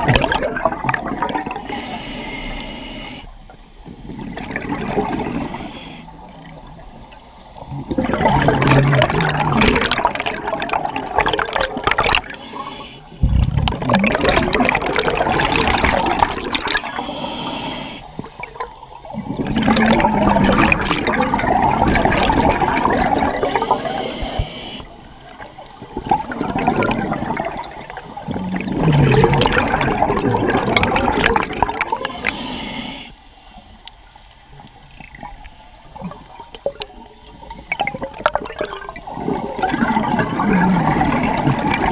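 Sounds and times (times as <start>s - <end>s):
exhaled bubbles underwater: 0.0s - 1.8s, 3.8s - 32.6s, 34.5s - 41.9s.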